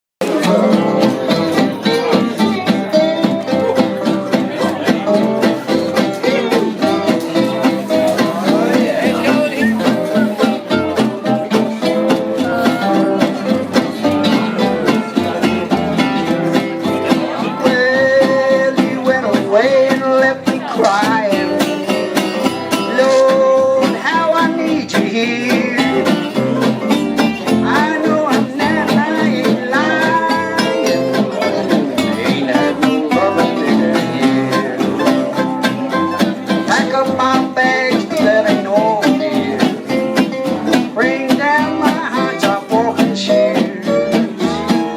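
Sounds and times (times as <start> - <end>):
live country-blues band: 0.2 - 44.9
sliding guitar lead melody: 0.2 - 44.9.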